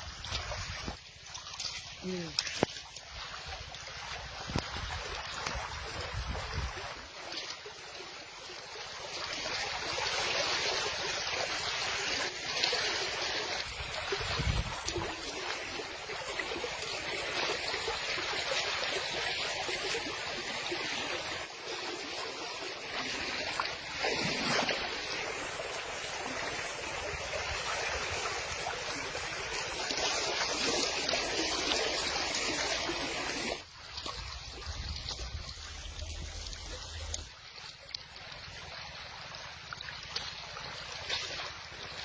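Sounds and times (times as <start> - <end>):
water flowing and splashing: 0.0 - 42.0.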